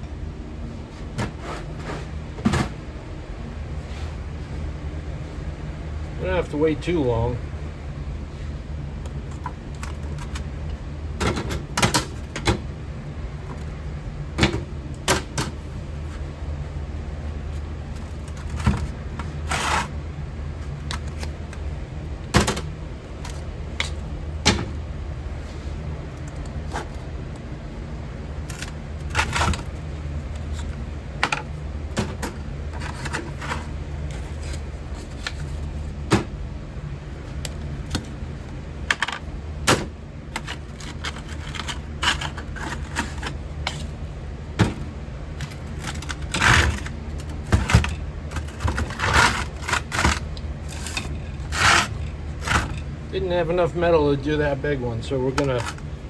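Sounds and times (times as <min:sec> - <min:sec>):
furnace rumbling: 0:00.0 - 0:56.0.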